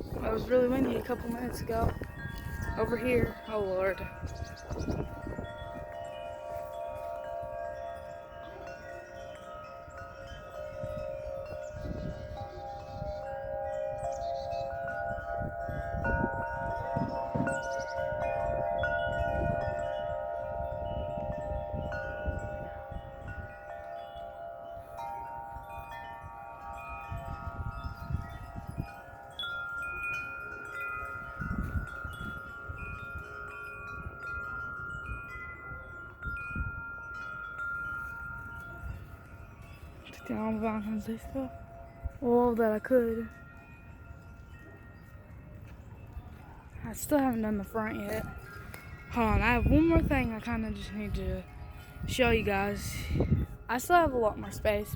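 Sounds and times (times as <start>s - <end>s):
wind chimes ringing: 0.0s - 54.9s
wind rumble on microphone: 0.0s - 54.9s.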